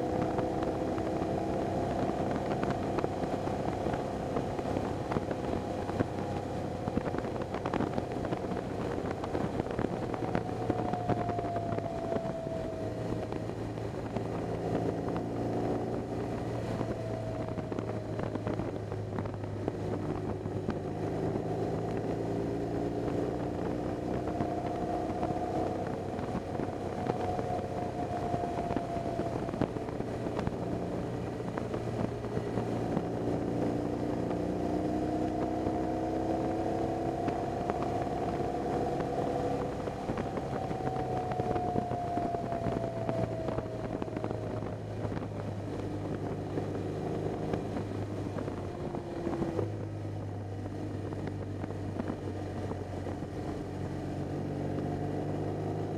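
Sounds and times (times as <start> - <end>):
motorcycle engine running: 0.0 - 55.9
road and wind noise: 0.0 - 55.9.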